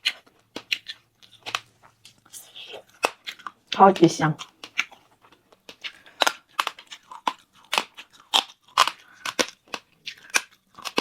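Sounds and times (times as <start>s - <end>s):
crunchy chewing of food: 0.0s - 11.0s.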